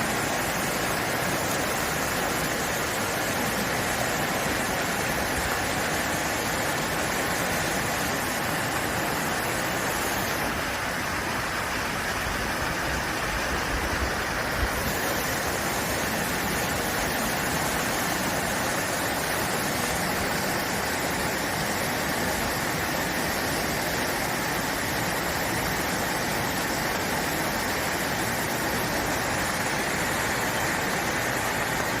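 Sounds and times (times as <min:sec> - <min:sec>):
rushing mountain stream: 0:00.0 - 0:32.0.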